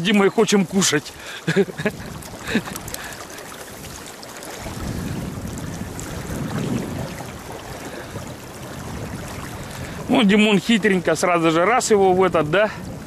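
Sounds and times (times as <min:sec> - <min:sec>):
running river water: 0:00.0 - 0:13.0
wind on microphone: 0:00.0 - 0:13.0.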